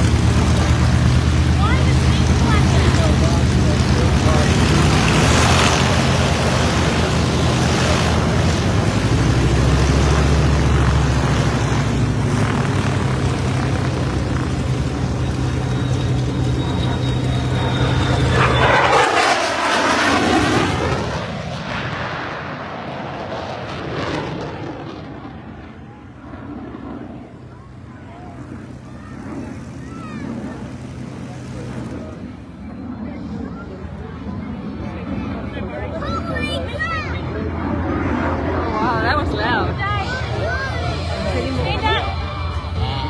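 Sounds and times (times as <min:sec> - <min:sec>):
fighter jet roaring past: 0:00.0 - 0:43.0.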